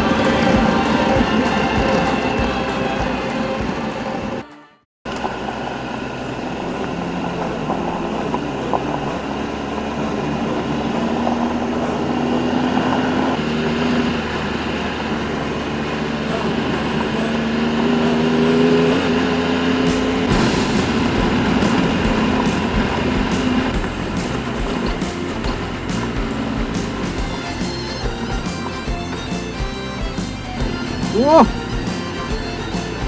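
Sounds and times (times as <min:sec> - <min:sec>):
motorcycle engine rumble: 0:00.0 - 0:04.4, 0:05.1 - 0:33.0.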